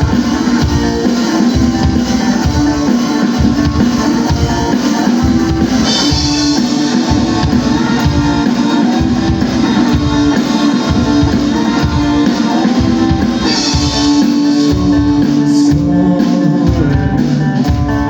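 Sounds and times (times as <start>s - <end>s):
live band playing funk: 0.0s - 18.0s.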